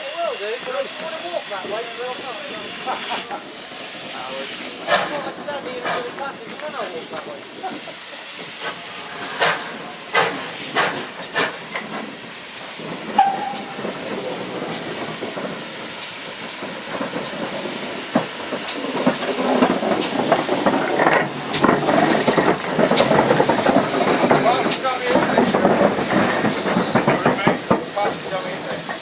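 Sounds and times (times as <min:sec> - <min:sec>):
steam locomotive hissing: 0:00.0 - 0:29.0.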